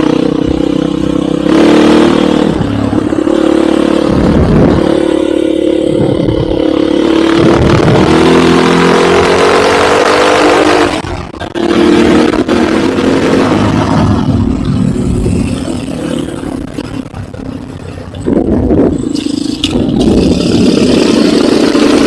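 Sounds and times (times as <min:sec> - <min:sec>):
motorcycle engine revving: 0:00.0 - 0:22.0
rushing noise: 0:02.2 - 0:22.0.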